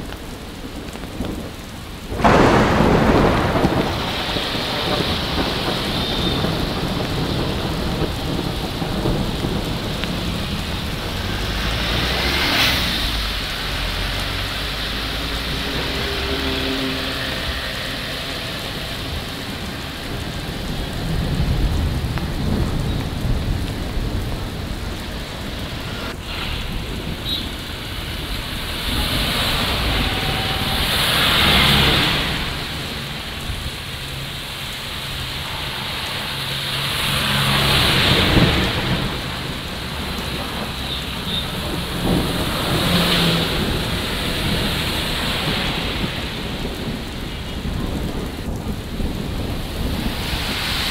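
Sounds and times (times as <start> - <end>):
falling rain: 0.0 - 50.9
tyres hissing on wet road: 0.0 - 50.9.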